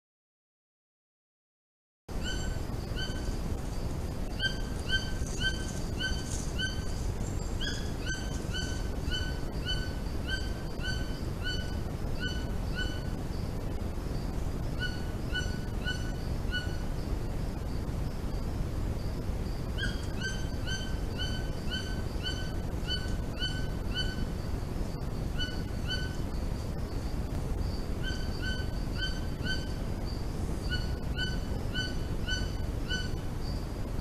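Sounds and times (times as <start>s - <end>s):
low background hiss: 2.1s - 34.0s.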